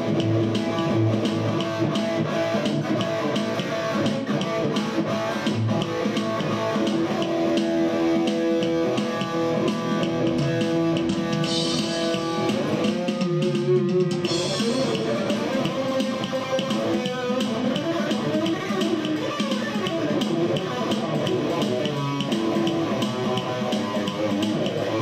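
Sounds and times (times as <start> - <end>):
guitar-led music with beat: 0.0 - 25.0.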